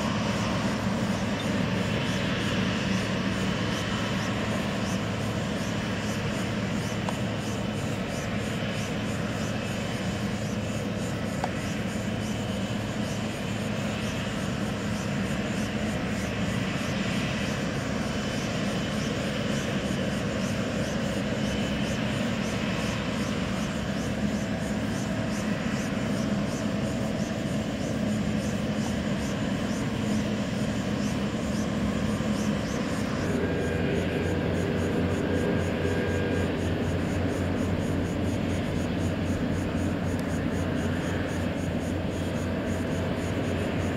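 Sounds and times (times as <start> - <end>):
jet engines humming: 0.0 - 43.9.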